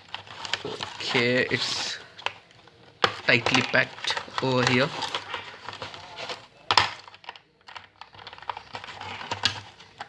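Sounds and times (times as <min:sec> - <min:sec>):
packaging clicks and rustles: 0:00.0 - 0:10.0.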